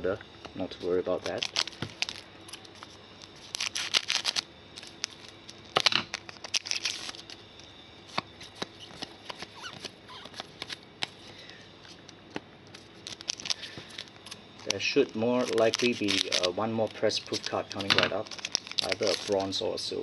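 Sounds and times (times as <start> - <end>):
foil wrapper crinkling: 0.8 - 12.0, 12.7 - 20.0.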